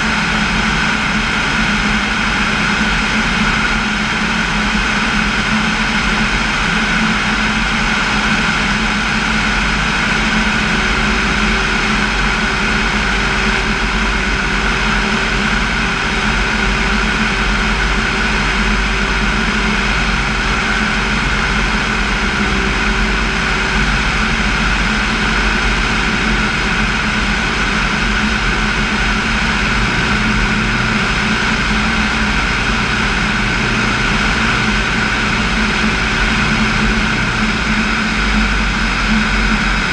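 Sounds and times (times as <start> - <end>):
light airplane engine drone: 0.0 - 39.9.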